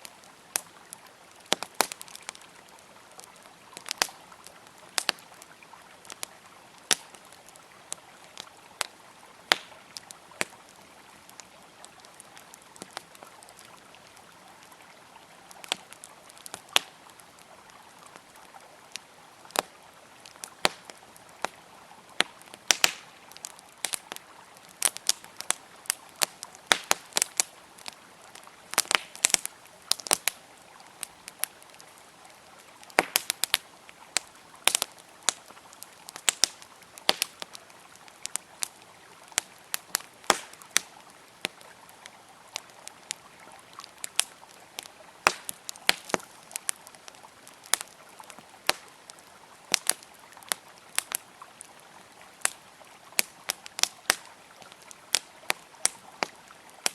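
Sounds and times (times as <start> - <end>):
campfire crackling and popping: 0.0 - 56.9
flowing river: 0.0 - 56.9.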